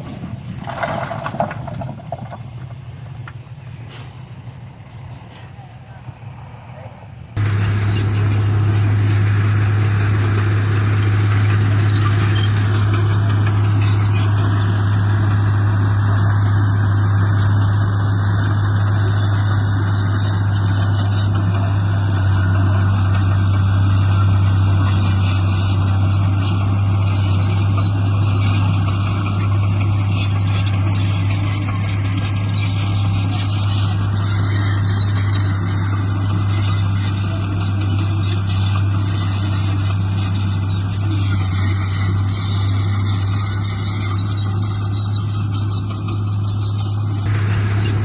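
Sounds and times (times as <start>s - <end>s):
heavy diesel engine droning: 0.0s - 48.0s.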